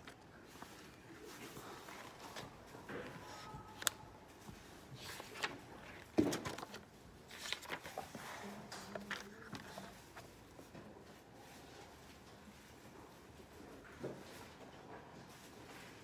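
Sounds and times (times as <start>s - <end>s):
notebook pages rustling: 0.0s - 13.4s.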